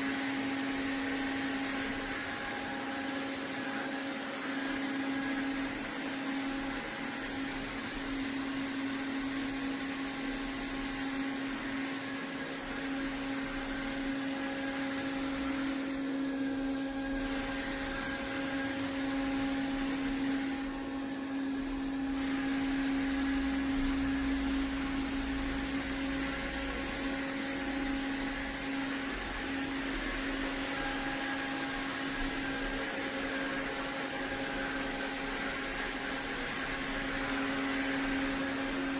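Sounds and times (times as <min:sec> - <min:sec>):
robot vacuum running: 0:00.0 - 0:38.9.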